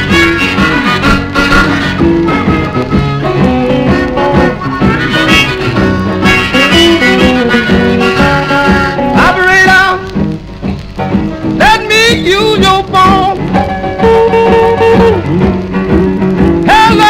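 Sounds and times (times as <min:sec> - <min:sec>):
blues record with guitar and harmonica: 0:00.0 - 0:17.0.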